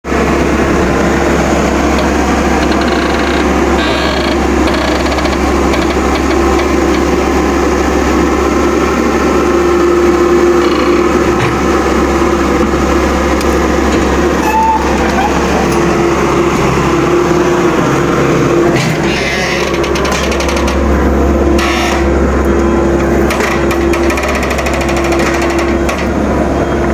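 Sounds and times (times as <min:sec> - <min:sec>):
heavy machinery engine running: 0:00.0 - 0:26.9.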